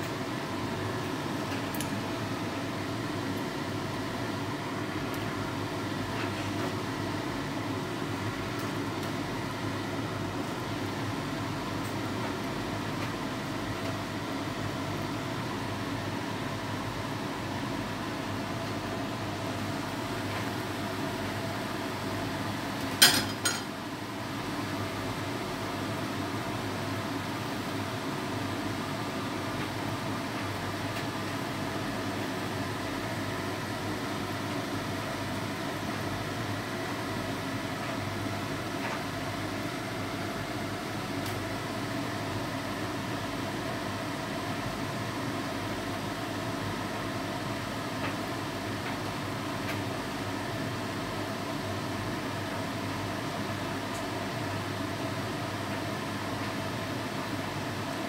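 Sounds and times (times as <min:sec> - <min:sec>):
fan whirring hum: 0:00.0 - 0:58.0.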